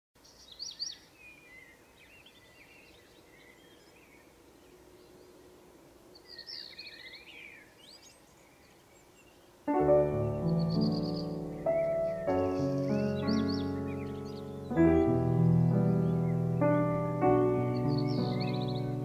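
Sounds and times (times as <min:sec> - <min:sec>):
birds twittering: 0:00.2 - 0:19.0
low steady background hiss: 0:00.2 - 0:19.0.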